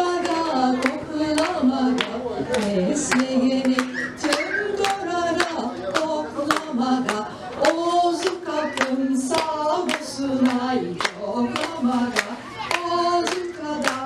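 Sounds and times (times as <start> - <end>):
people clapping along: 0.0 - 14.0
woman singing through microphone: 0.0 - 14.0.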